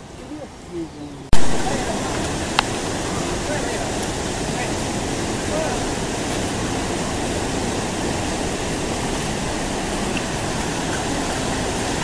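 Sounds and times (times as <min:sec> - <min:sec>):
rushing white water: 0:00.0 - 0:12.0.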